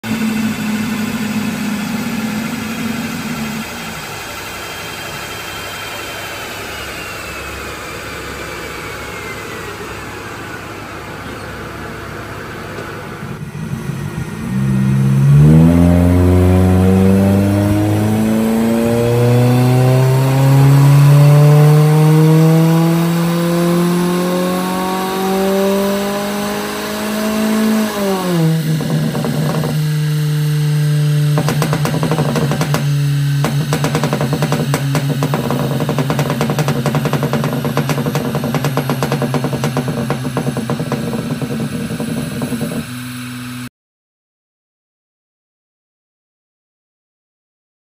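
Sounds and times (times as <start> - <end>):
whine falling in pitch: 0.0 - 12.1, 13.2 - 43.7
car engine on dynamometer: 0.0 - 43.7.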